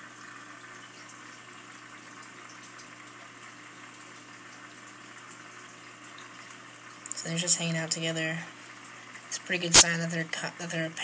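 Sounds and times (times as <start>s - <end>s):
aquarium water bubbling: 0.0s - 11.0s
low steady hum: 0.0s - 11.0s.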